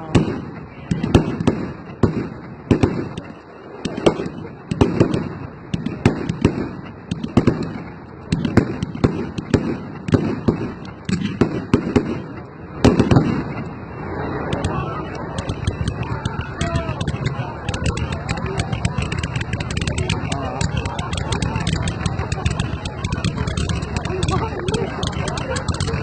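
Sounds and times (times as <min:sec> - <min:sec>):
fireworks exploding: 0:00.0 - 0:26.0.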